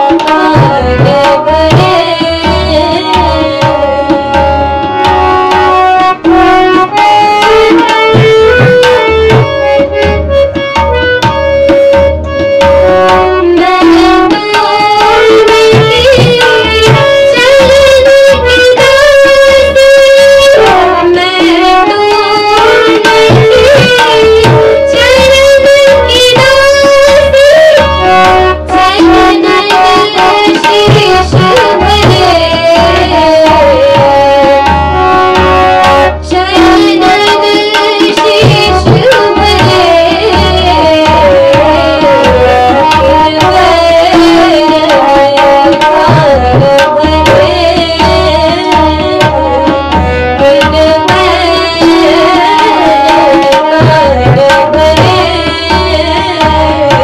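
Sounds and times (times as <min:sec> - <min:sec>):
woman singing: 0:00.0 - 0:10.1, 0:12.6 - 0:57.0
backing music with hand drums: 0:00.0 - 0:57.0.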